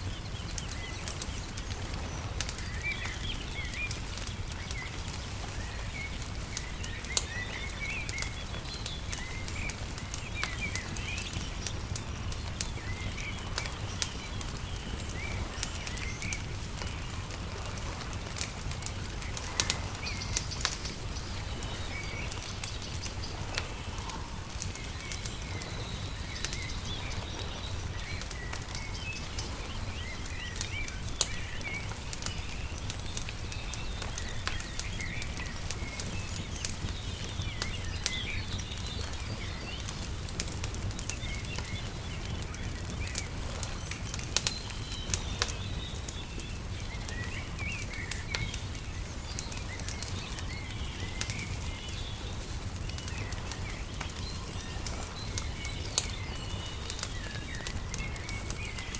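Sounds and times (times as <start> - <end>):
small birds chirping: 0.0 - 58.9
wood fire crackling and popping: 0.0 - 58.9.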